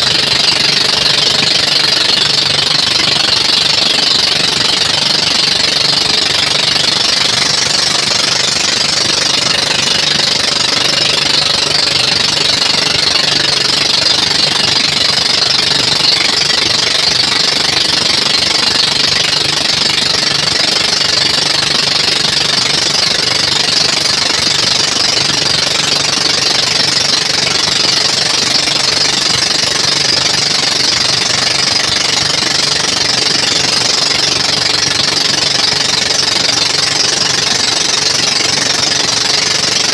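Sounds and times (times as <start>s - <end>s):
boat engine running: 0.0s - 39.9s
water rushing along hull: 0.0s - 39.9s.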